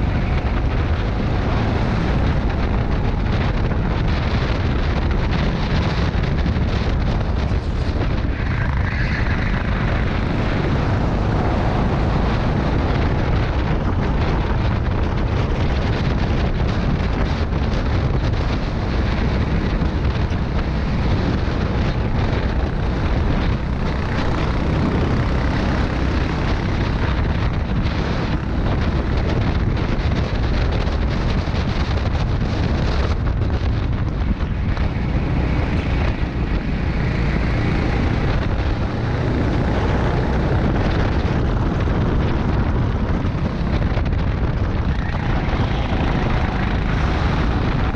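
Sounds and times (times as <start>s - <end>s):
go-kart engine running hard: 0.0s - 47.9s
wind buffeting microphone: 0.0s - 47.9s.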